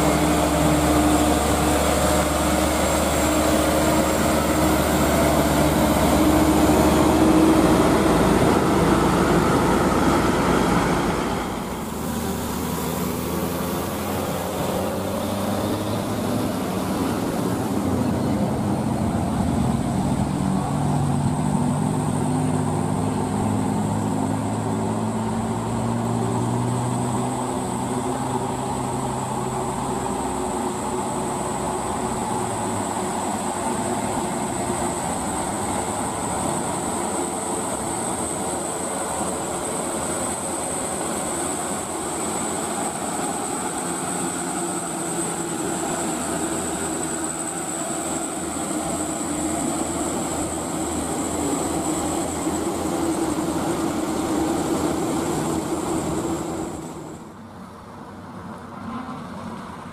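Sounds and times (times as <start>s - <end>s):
high-pitched whine: 0.0s - 57.4s
dump truck diesel engine labouring: 0.0s - 57.6s
tyres hissing on wet road: 0.0s - 59.8s.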